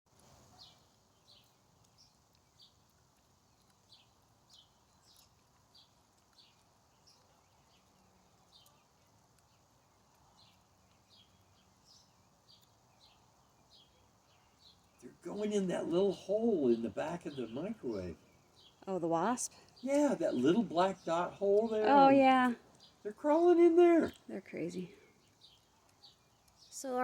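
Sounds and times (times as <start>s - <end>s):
small bird chirping: 0.1s - 27.0s.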